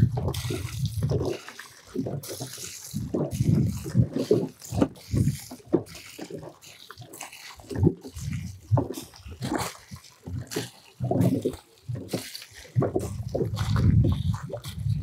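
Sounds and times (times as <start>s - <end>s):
water splashing onto stones: 0.0s - 15.0s.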